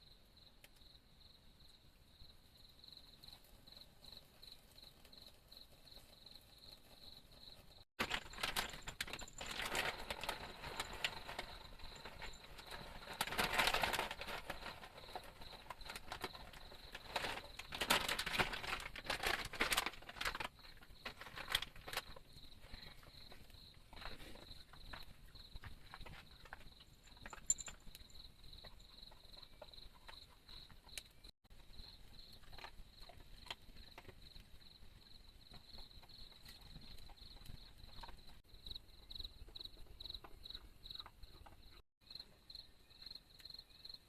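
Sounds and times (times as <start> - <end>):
cricket chirping: 0.0 - 44.0
crackling and rustling with clicks: 3.2 - 41.8.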